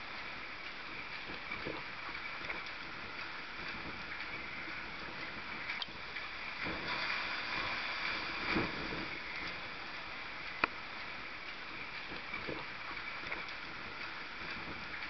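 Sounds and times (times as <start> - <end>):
rough sea: 0.0 - 15.0
wind: 0.0 - 15.0.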